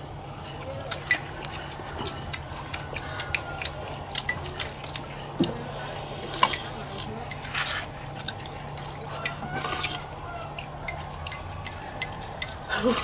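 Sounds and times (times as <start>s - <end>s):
chopsticks clinking against bowls: 0.3s - 5.6s, 6.3s - 13.0s.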